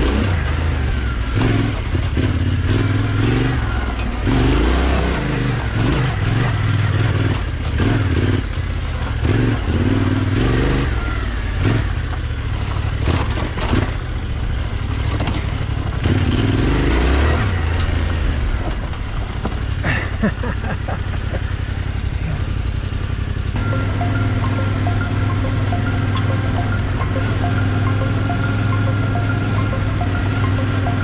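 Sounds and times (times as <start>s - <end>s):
motorcycle engine running: 0.0s - 31.0s
knocks and clatter over bumps: 1.3s - 31.0s.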